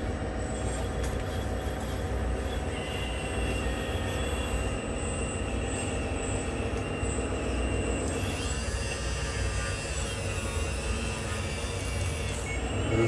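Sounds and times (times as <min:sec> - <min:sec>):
electric motors and hydraulic pump whining: 0:00.0 - 0:13.0.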